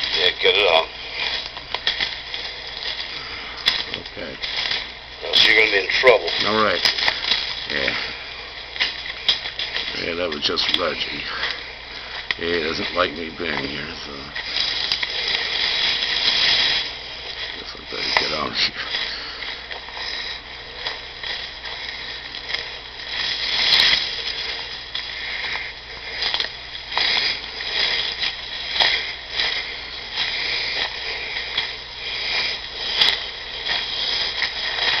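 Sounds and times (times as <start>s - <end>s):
crunching rustle: 0.0s - 35.0s.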